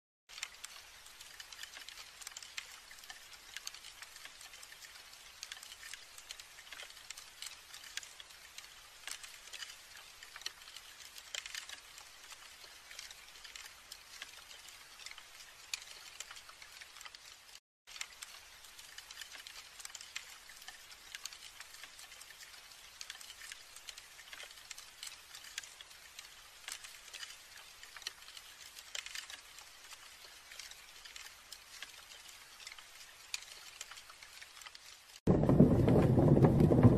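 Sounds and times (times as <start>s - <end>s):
larvae chewing wood crackling: 0.3s - 36.8s.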